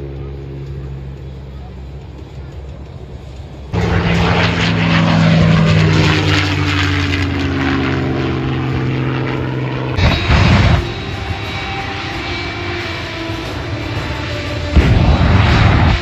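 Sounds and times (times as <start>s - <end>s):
distant propeller plane engines: 0.0s - 16.0s
propeller plane engine passing low: 0.0s - 16.0s.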